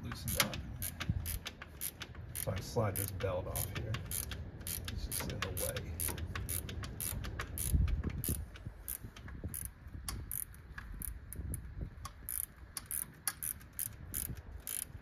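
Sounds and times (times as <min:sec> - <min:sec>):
ratchet wrench clicking: 0:00.0 - 0:15.0.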